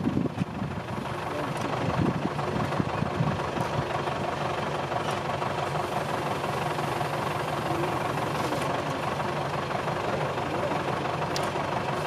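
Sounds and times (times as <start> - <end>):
heavy engine humming: 0.0 - 12.0.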